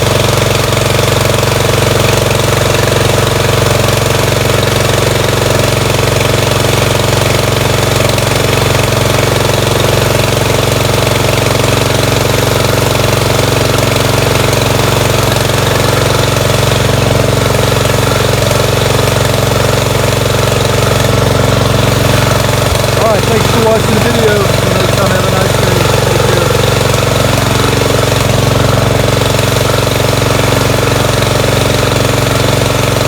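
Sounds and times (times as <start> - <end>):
riding mower engine running: 0.0 - 33.0.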